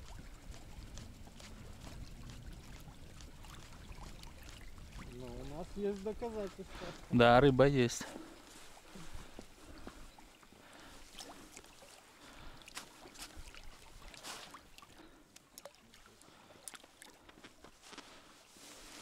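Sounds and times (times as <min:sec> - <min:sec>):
water lapping against boat hull: 0:00.0 - 0:07.1, 0:08.0 - 0:18.2.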